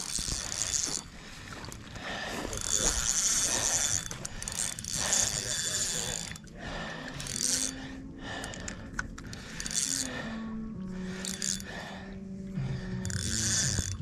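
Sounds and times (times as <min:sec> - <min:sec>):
fishing reel ratcheting: 0:00.0 - 0:14.0.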